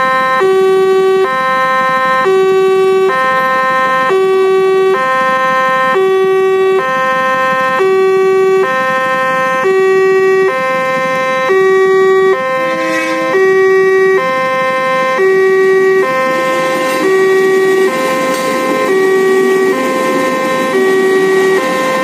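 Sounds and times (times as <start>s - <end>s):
level-crossing alarm two-tone: 0.0s - 22.0s.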